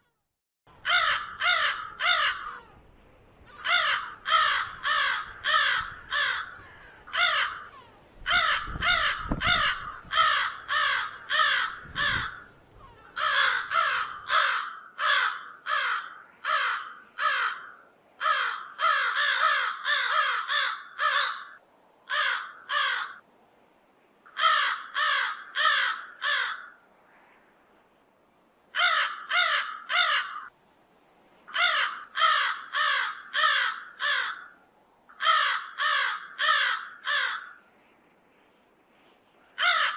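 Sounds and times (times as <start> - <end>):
crow cawing: 0.8 - 2.8, 3.5 - 23.2, 24.3 - 27.4, 28.7 - 30.5, 31.5 - 37.6, 39.6 - 39.9.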